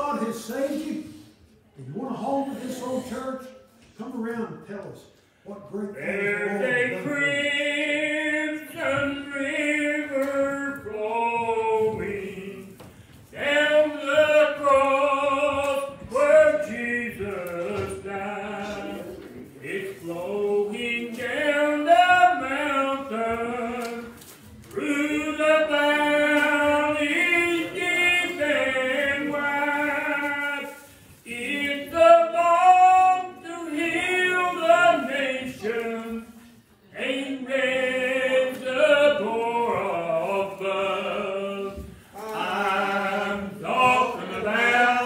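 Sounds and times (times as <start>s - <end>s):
congregation singing a hymn: 5.8s - 45.0s
man singing: 5.9s - 45.0s.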